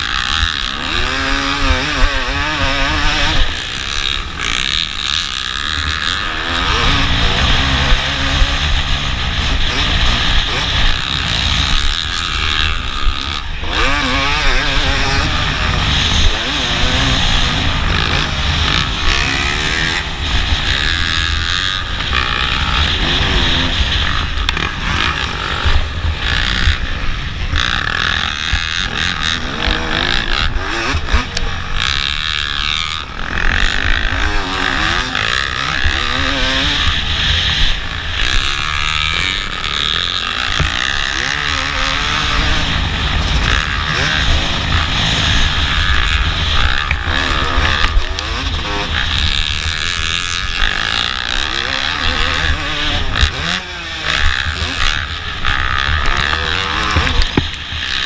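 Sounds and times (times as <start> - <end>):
motocross bike engine revving: 0.0 - 58.0
wind rushing on camera: 0.0 - 58.0.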